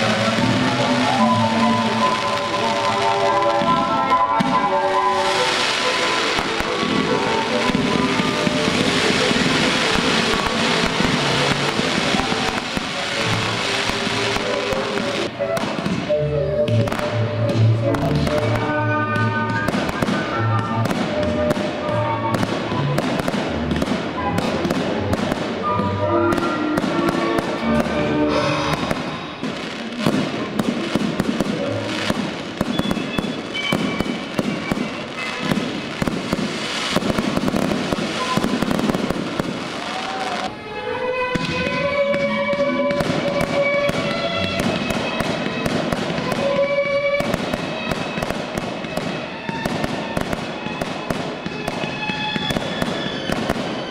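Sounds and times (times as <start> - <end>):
fireworks bursting and crackling: 0.0 - 53.9
music playing: 0.0 - 53.9.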